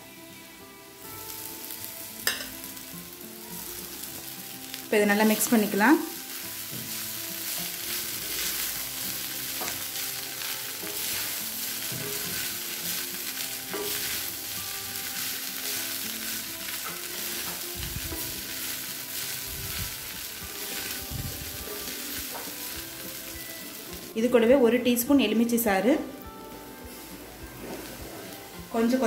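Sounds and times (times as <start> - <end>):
oil sizzling: 0.0 - 29.0.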